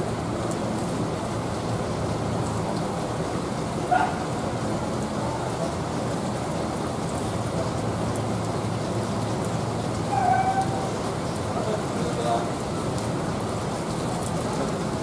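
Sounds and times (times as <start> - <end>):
rain falling on pavement: 0.0 - 15.0.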